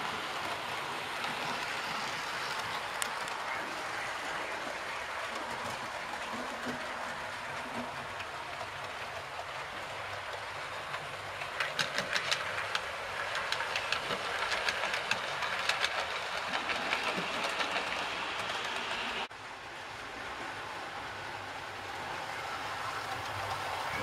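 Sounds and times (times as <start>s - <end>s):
wheels clicking over rail joints: 0.0s - 19.3s, 21.2s - 24.0s
model train whirring: 0.0s - 24.0s.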